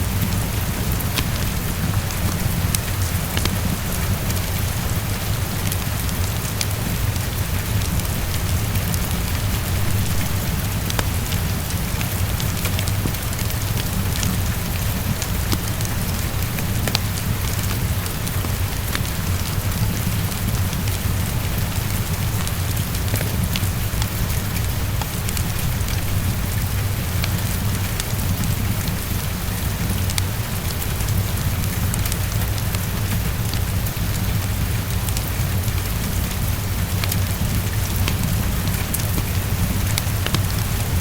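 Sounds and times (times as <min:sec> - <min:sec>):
heavy rain on a window: 0:00.0 - 0:41.0.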